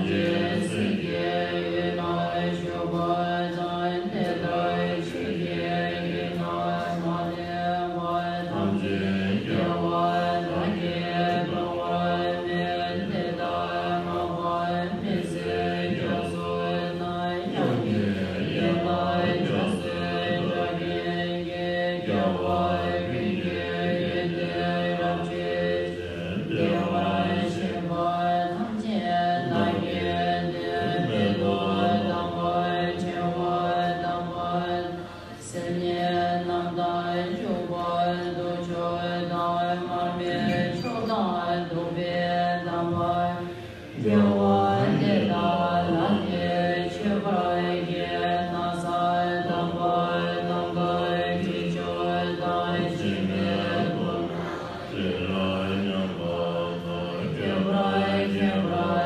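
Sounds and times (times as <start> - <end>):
group chanting: 0.0 - 59.0.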